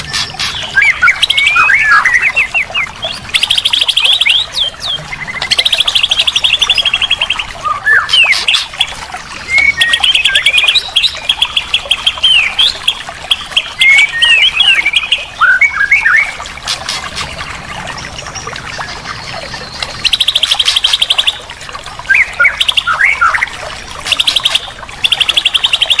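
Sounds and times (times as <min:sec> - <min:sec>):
songbirds trilling and whistling: 0:00.0 - 0:26.0.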